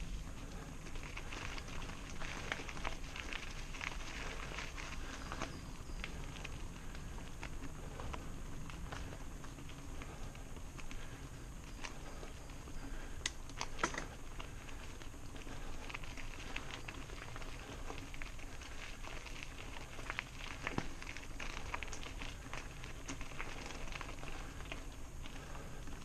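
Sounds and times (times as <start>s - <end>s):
bike tyres rolling on gravel: 0.0s - 26.0s.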